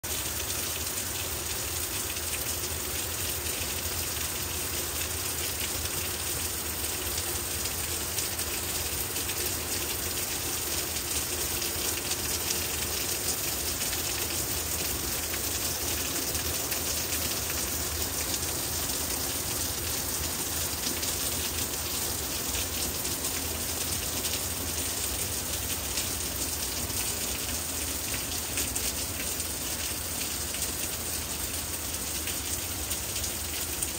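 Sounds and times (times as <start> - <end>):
rain falling on leaves: 0.0 - 33.9.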